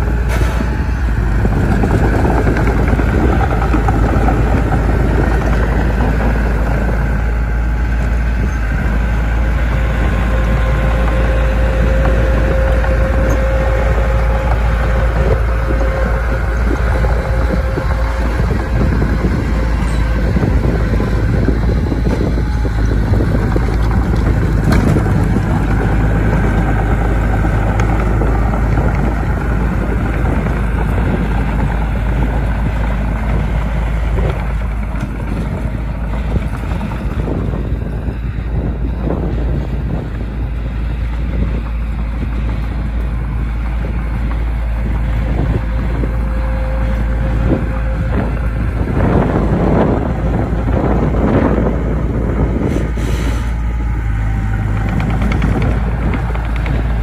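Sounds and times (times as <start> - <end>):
diesel machinery drone: 0.0 - 57.0.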